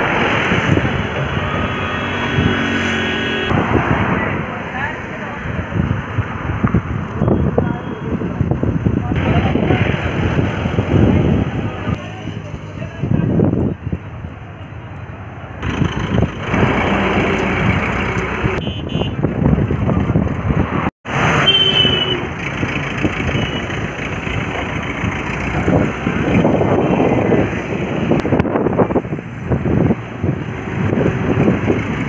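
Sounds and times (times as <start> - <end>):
heavy truck engine: 0.0 - 32.0
road traffic rumble: 0.0 - 32.0.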